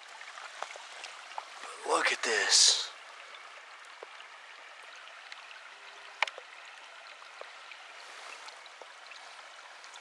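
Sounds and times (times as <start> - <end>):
small creek running: 0.0 - 10.0.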